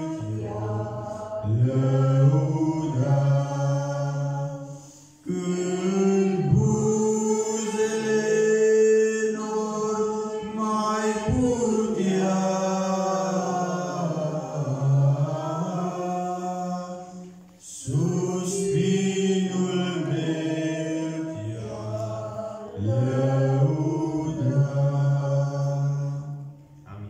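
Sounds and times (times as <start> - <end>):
man singing a hymn into microphone: 0.0 - 27.0.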